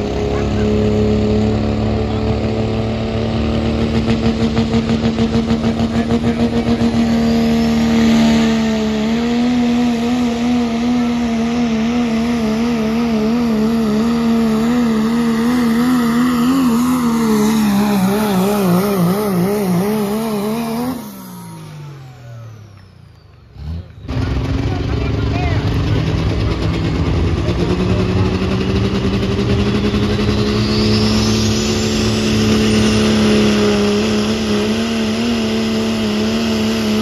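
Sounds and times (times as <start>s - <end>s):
diesel truck engine at high revs: 0.0s - 37.0s.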